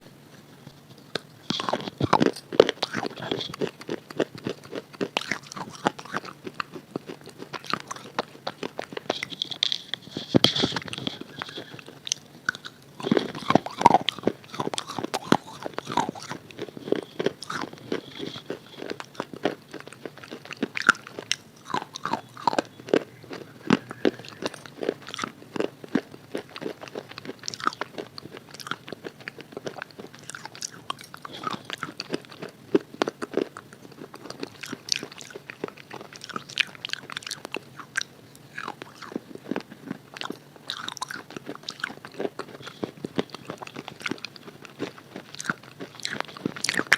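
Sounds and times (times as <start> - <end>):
person chewing crunchy chalk: 0.2 - 46.9.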